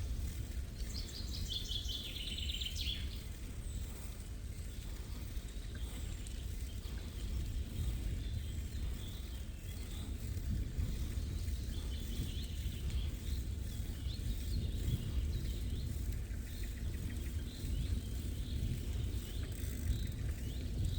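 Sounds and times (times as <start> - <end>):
songbirds chirping: 0.1 - 20.9.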